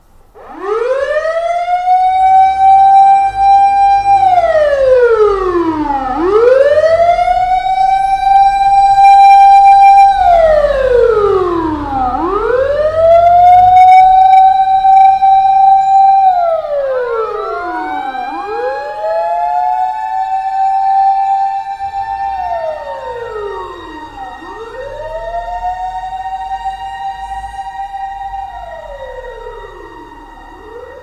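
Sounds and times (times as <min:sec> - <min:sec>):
siren wailing: 0:00.3 - 0:31.0.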